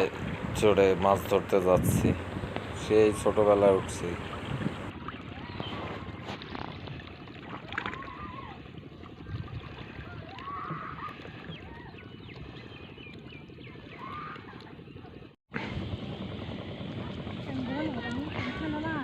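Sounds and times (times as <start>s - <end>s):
water sloshing around raft: 0.0s - 19.0s.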